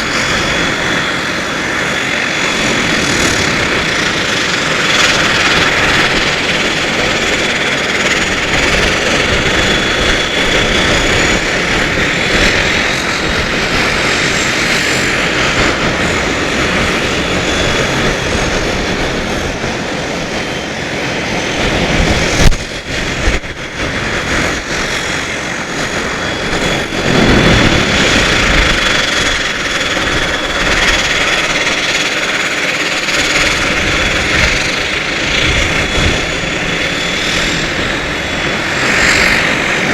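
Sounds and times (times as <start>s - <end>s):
high engine whine: 0.0s - 39.9s
turboprop engines running: 0.0s - 39.9s.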